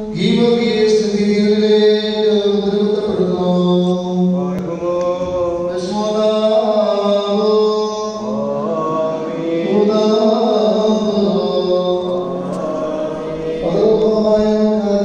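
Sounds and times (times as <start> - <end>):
man chanting a prayer over loudspeaker: 0.0 - 15.0.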